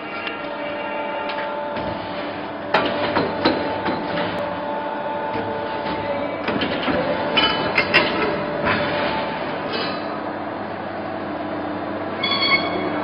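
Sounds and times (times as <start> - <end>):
pipe bender machine hum: 0.0 - 13.0.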